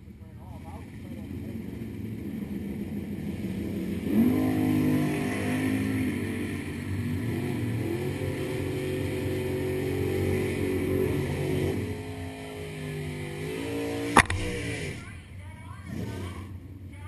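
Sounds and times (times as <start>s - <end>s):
engine revving: 0.6s - 15.2s, 15.8s - 16.6s.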